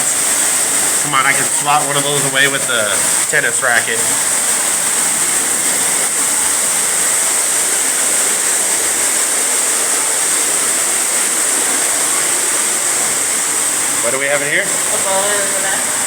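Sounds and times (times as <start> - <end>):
rushing of falling water: 0.0 - 16.0.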